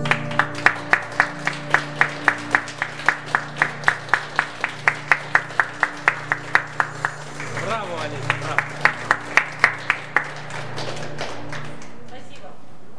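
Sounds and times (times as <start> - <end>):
audience clapping in rhythm: 0.0 - 12.5.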